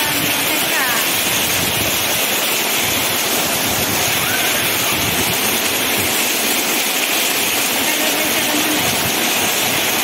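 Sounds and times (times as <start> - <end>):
heavy rain splashing into water: 0.0 - 10.0.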